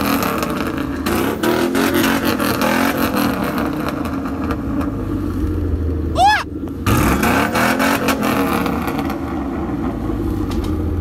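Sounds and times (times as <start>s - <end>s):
car engine revving: 0.0s - 5.2s, 6.6s - 10.4s.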